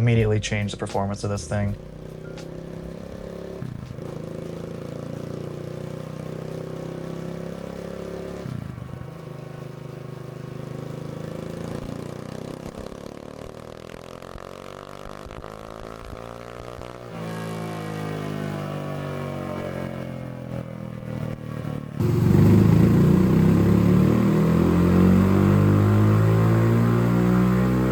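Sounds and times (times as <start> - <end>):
dirt bike engine under throttle: 1.8 - 18.5, 22.0 - 27.9.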